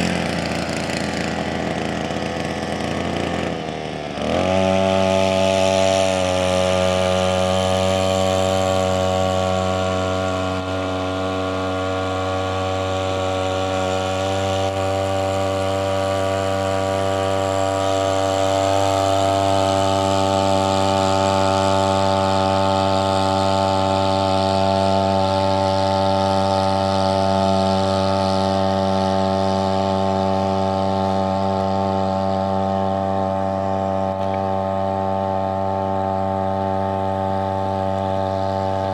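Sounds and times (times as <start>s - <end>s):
outboard boat motor running: 0.0s - 38.9s.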